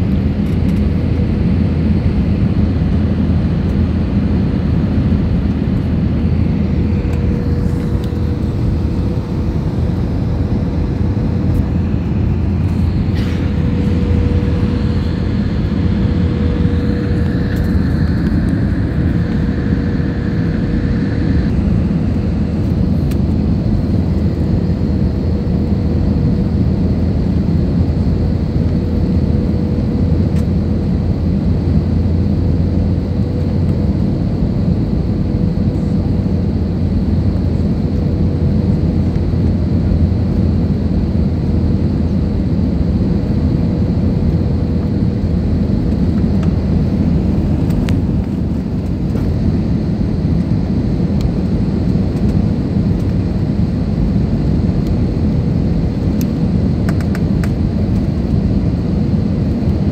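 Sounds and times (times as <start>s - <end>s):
jet engine cabin noise: 0.0s - 59.9s
steady whine: 0.0s - 59.9s.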